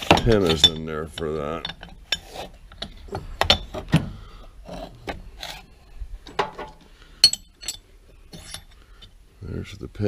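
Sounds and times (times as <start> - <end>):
metal vise parts knocking: 0.0 - 5.6, 6.2 - 9.1.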